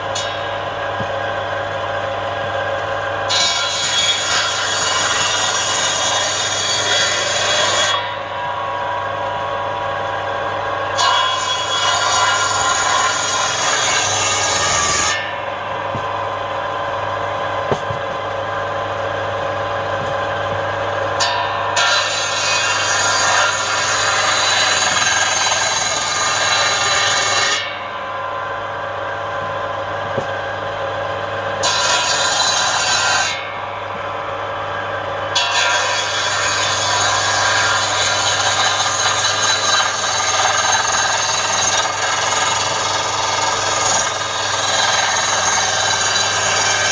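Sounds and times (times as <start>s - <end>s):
table saw cutting wood: 0.0s - 9.2s, 10.3s - 28.0s, 31.5s - 33.7s, 35.3s - 46.9s.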